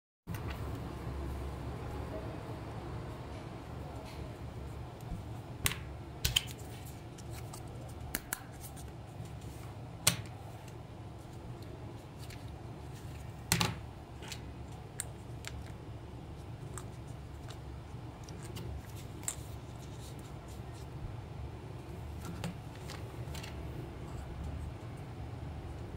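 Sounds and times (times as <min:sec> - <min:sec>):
low steady hum: 0:00.3 - 0:25.9.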